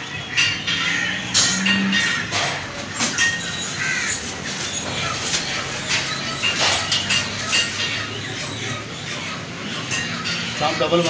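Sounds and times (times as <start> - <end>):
crows cawing: 0.2 - 11.0.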